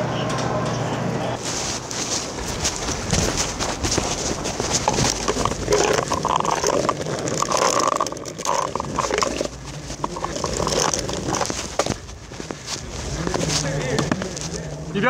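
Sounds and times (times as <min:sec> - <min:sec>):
plastic wheels rolling on pavement: 0:01.4 - 0:15.0
wheel squeaks and knocks: 0:02.2 - 0:14.5.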